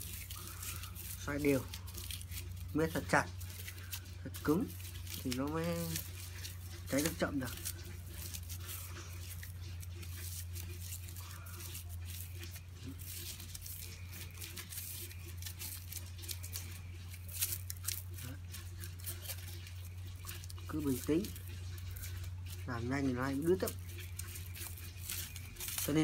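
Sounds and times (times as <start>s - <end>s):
cling film crinkling: 0.0s - 26.0s
steady low hum: 0.0s - 26.0s.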